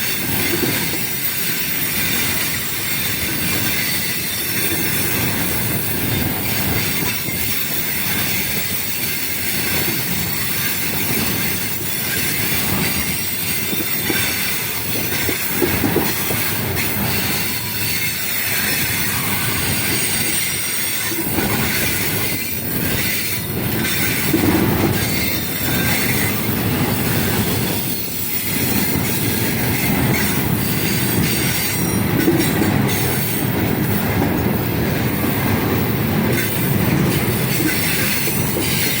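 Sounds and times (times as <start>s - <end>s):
train wheels rumbling on rails: 0.0s - 39.0s
wheels clacking over rail joints: 0.0s - 39.0s.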